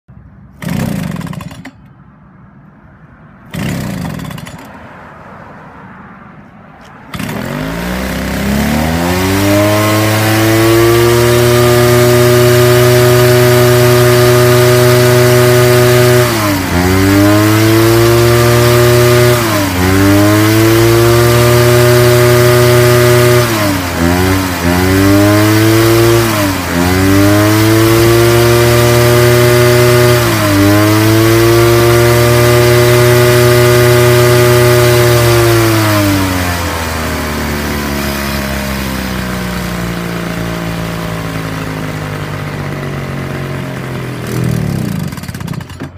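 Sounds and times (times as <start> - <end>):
leaf blower engine revving: 0.5 - 1.7, 3.5 - 4.7, 7.1 - 45.9
recoil starter pulls: 0.5 - 2.0, 3.5 - 4.8, 7.1 - 20.0, 20.6 - 45.9.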